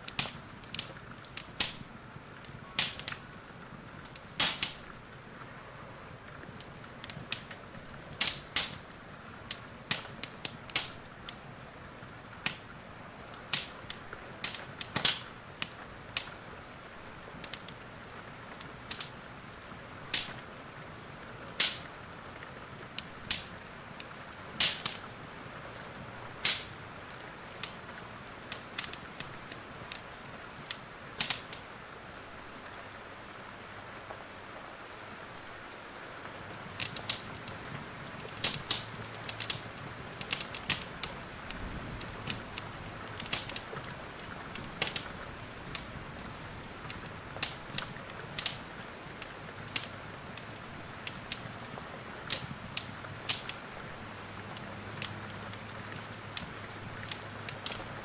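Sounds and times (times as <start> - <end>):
wood fire crackling and popping: 0.0 - 32.8, 36.2 - 58.0
rain hissing: 0.0 - 58.0.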